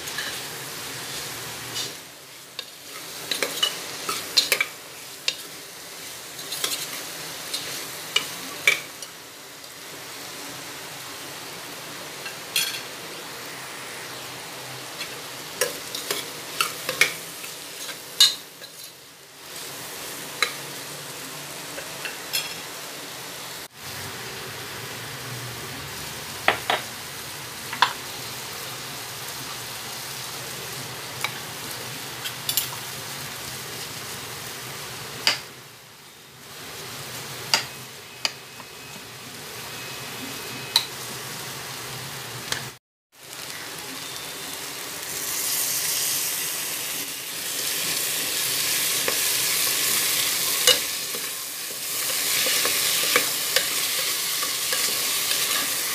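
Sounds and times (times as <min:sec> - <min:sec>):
vegetables sizzling in pot: 0:00.0 - 0:55.9.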